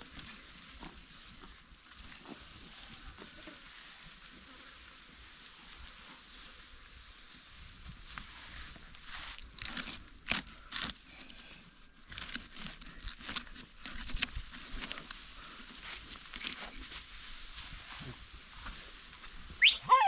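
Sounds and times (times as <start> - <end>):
dry rustling and crackling: 0.0 - 19.8.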